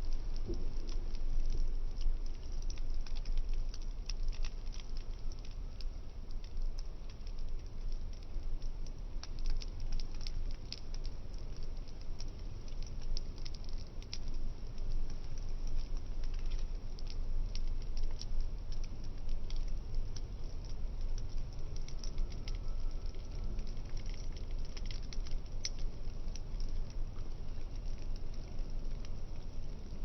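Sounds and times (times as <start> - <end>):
burning cardboard crackling: 0.0 - 30.0
low fire rumble: 0.0 - 30.0.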